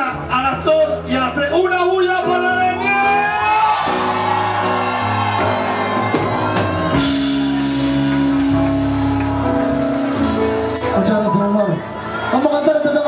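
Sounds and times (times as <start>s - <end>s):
keyboard chords: 0.0s - 13.0s.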